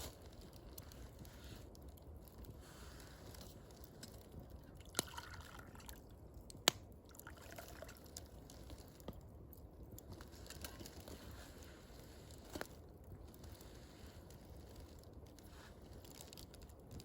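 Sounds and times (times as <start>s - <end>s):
fire popping: 0.0s - 17.0s
wood fire crackling: 0.0s - 17.0s.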